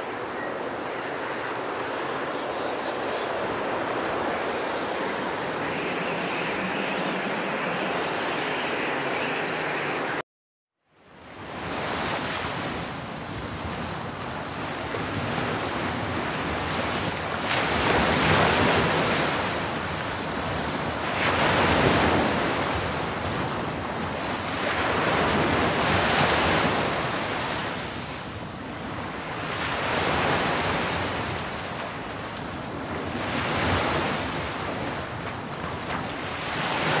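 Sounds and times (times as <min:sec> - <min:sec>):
waves washing in: 0:00.0 - 0:10.2, 0:11.2 - 0:37.0
wind: 0:00.0 - 0:10.2, 0:10.8 - 0:37.0.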